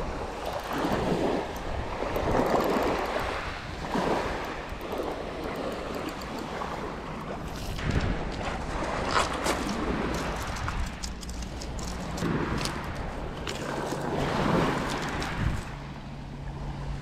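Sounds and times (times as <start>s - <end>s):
waves washing onto shingle beach: 0.0s - 15.8s.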